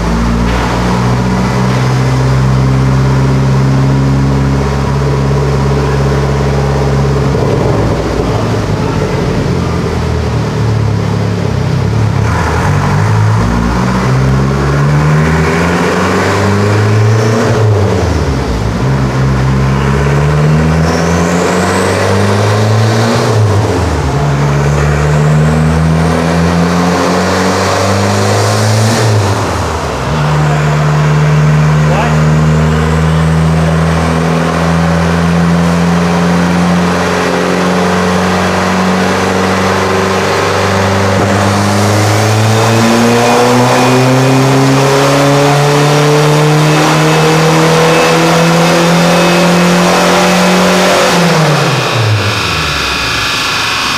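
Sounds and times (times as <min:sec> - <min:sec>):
turbo engine revving: 0:00.0 - 0:53.9.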